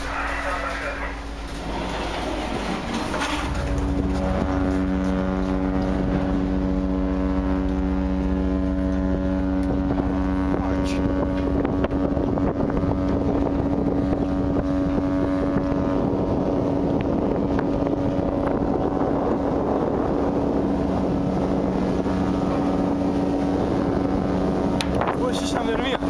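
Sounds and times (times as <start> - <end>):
rushing sea water: 0.0 - 26.0
ship engine droning: 0.0 - 26.0
wind: 0.0 - 26.0.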